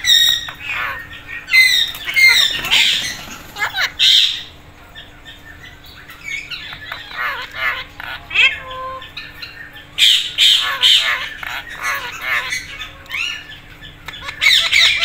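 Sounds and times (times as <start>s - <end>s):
harsh parakeet squawks: 0.0s - 4.5s, 6.1s - 15.0s
parakeets chattering: 0.0s - 15.0s.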